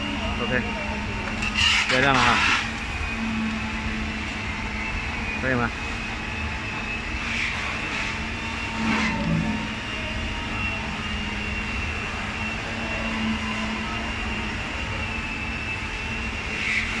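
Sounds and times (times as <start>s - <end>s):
workshop machinery drone: 0.0s - 17.0s.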